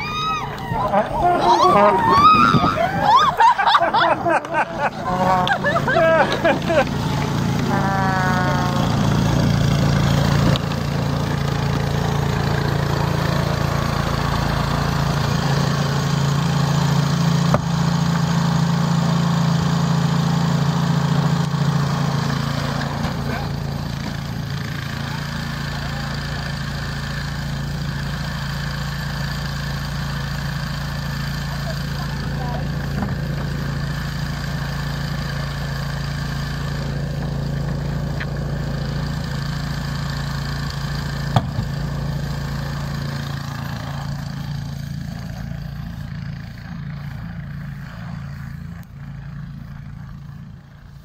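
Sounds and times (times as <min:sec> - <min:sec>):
snow blower engine running: 0:00.0 - 0:51.0.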